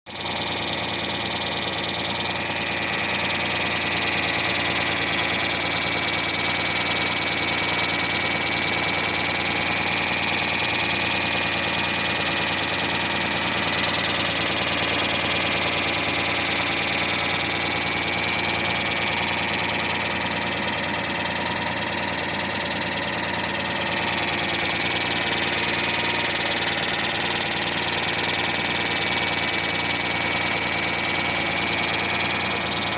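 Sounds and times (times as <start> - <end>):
small engine running: 0.1 - 32.9.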